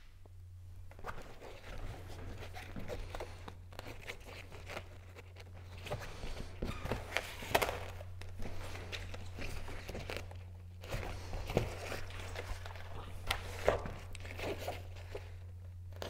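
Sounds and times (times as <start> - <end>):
steady low hum: 0.0 - 16.0
fabric rustling and crinkling: 0.8 - 16.0.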